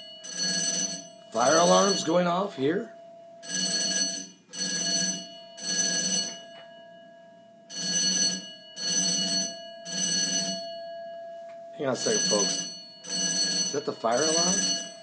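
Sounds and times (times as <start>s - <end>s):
fire alarm ringing: 0.0s - 15.0s.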